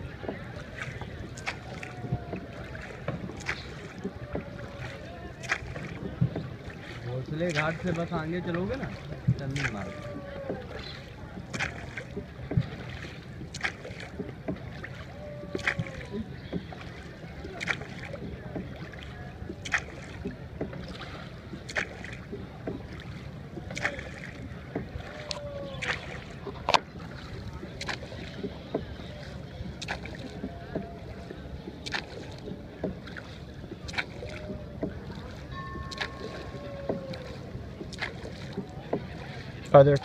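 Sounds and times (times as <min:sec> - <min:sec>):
low rumble of water and wind: 0:00.0 - 0:40.0
oars knocking in oarlocks: 0:00.1 - 0:40.0.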